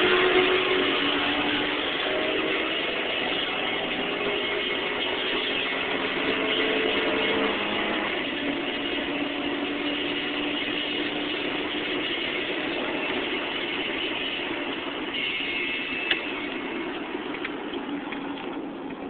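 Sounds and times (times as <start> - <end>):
car engine at full throttle: 0.0 - 19.0
road and wind noise: 0.0 - 19.0.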